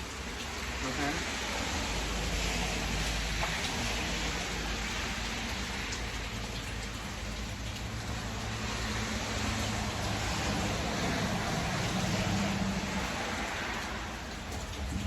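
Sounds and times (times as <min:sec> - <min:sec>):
faint drips: 0:00.0 - 0:15.0
rain hissing: 0:00.0 - 0:15.0.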